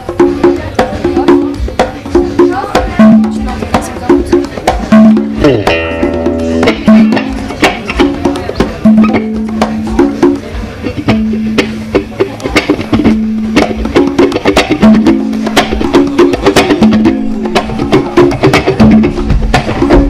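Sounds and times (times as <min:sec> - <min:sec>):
congas played by hand: 0:00.0 - 0:20.0.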